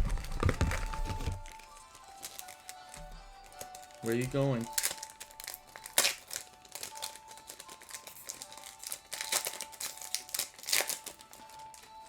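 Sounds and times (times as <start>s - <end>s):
cards being handled: 0.0s - 12.0s
faint background music: 0.0s - 12.0s
foil wrapper crinkling: 0.0s - 12.0s.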